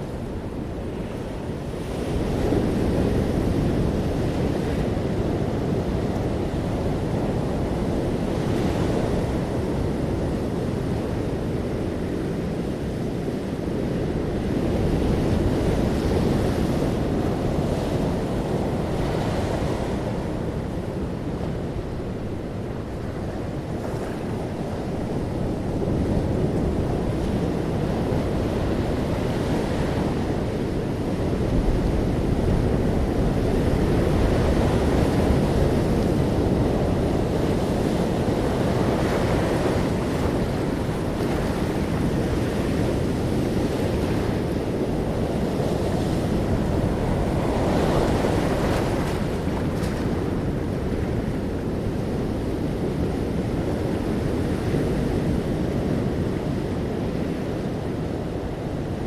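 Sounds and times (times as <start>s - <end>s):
sea waves breaking on shore: 0.0s - 59.0s
wind buffeting microphone: 0.0s - 59.0s.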